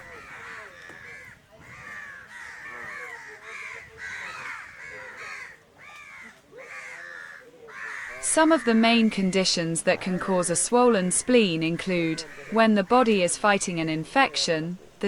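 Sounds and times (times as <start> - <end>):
crows cawing: 0.0 - 12.8.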